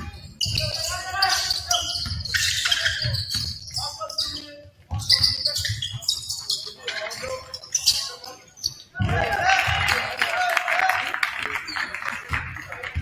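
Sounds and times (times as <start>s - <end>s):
players and coaches calling out: 0.0s - 13.0s.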